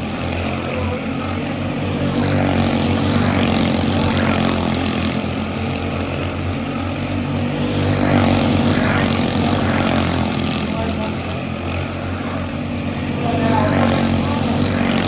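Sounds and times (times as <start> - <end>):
small race car engine running: 0.0 - 15.0.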